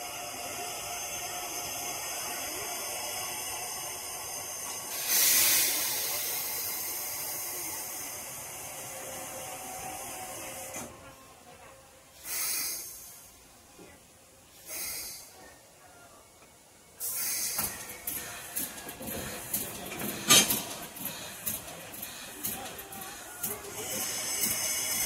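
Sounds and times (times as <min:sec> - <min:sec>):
steam locomotive hissing steam: 0:00.0 - 0:11.1, 0:12.0 - 0:13.7, 0:14.5 - 0:15.7, 0:17.0 - 0:25.0.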